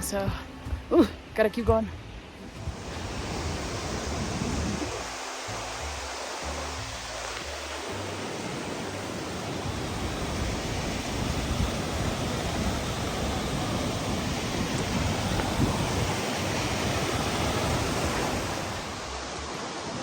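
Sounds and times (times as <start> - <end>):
waterfall roaring: 2.4 - 20.0.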